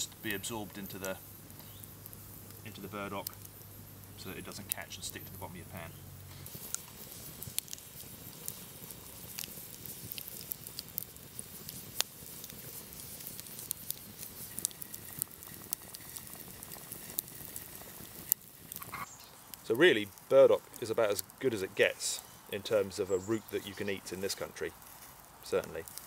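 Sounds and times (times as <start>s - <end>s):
campfire crackling and popping: 0.0s - 26.0s
hiss of burning wood: 0.0s - 26.0s.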